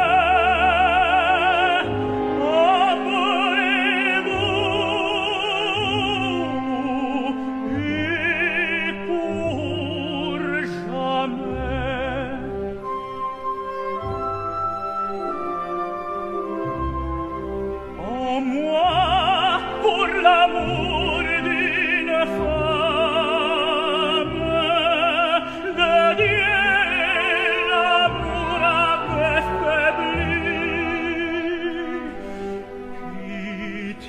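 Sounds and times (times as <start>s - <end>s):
operatic tenor singing with vibrato: 0.0s - 34.0s
orchestral accompaniment: 0.0s - 34.0s.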